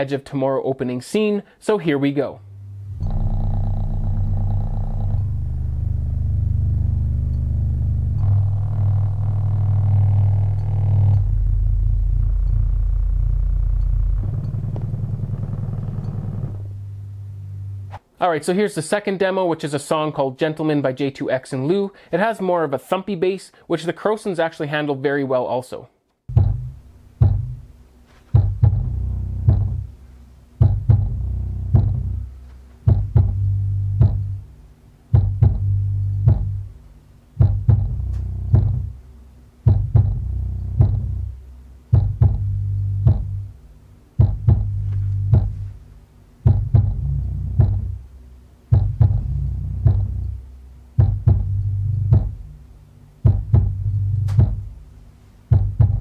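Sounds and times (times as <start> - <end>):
low bass hum through chair: 2.3 - 18.0, 26.3 - 56.0.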